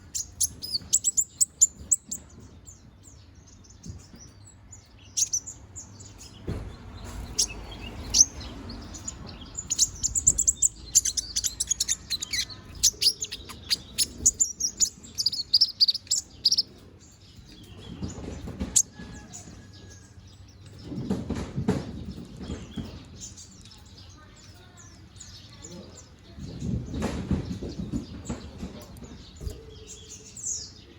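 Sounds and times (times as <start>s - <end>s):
sunbird twittering song: 0.0s - 21.1s, 21.8s - 30.9s.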